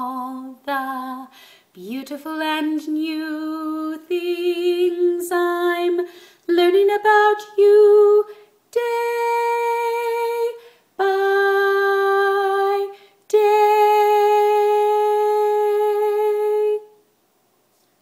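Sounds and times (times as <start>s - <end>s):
woman singing unaccompanied: 0.0s - 17.0s.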